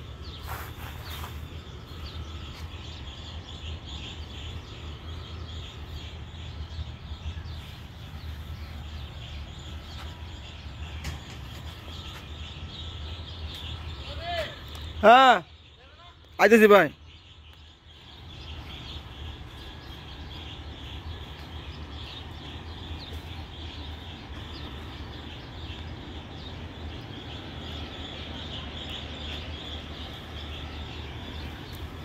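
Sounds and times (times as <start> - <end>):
steady low hum: 0.0 - 16.2, 16.9 - 32.0
small birds chirping: 0.0 - 32.0.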